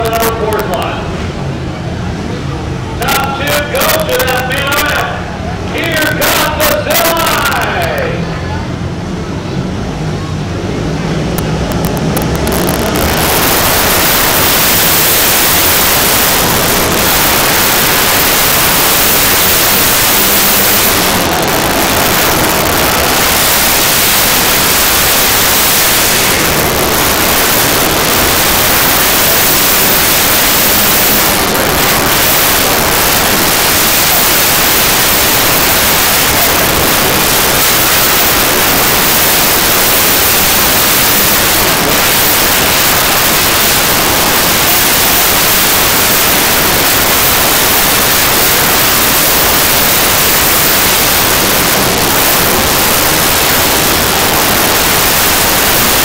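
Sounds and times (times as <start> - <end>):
motorcycles racing: 0.0 - 56.0.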